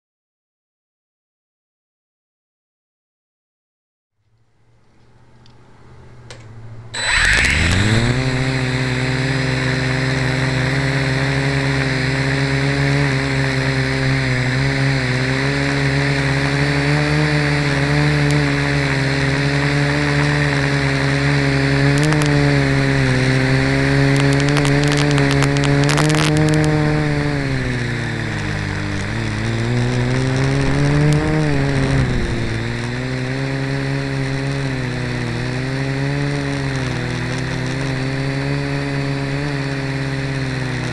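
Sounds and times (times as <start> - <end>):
quadcopter propellers whining: 6.8 - 40.9.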